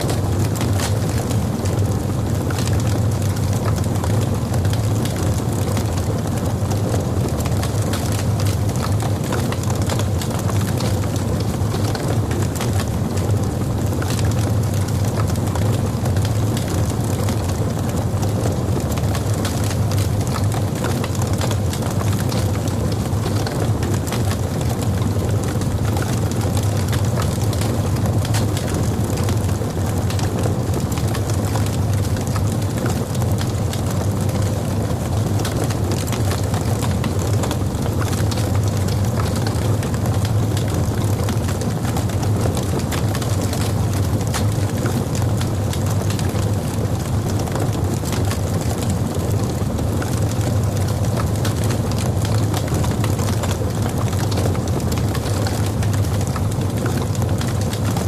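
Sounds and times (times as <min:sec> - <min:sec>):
logs burning in a fireplace: 0:00.0 - 0:58.0.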